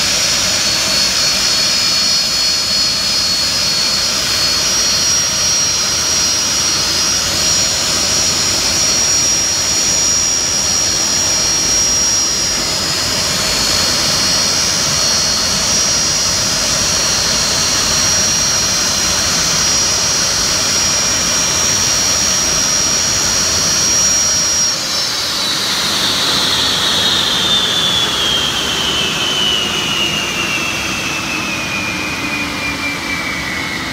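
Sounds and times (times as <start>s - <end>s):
jet engines whining: 0.0s - 33.9s.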